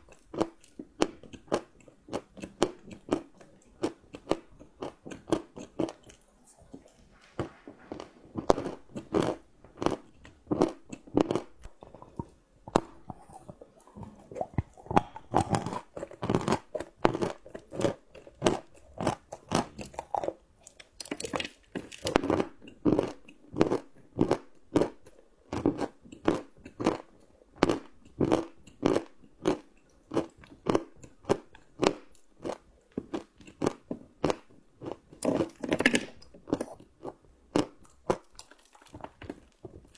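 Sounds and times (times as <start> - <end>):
chewing crunchy chocolate: 0.0 - 39.9.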